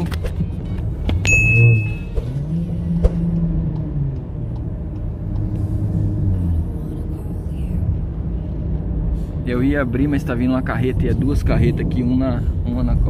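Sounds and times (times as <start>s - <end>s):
car engine drone: 0.0s - 13.0s
road rumble: 0.0s - 13.0s.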